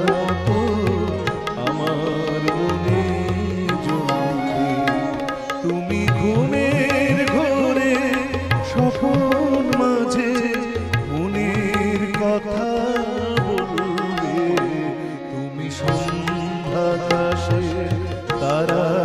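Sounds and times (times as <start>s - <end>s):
ensemble with sitar flute and violin: 0.0s - 19.0s
tabla rhythm: 0.0s - 19.0s.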